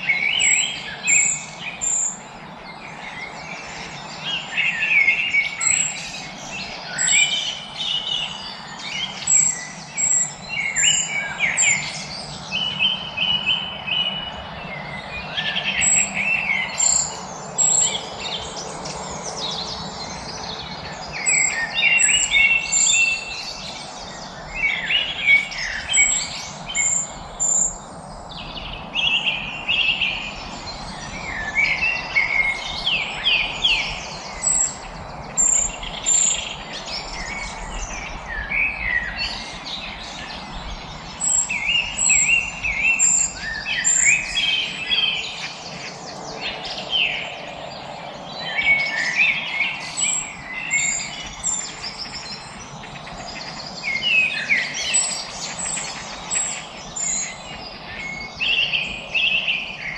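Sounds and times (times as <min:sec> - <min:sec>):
outdoor ambience: 0:00.0 - 0:59.9
songbirds singing and chirping: 0:00.0 - 0:59.9.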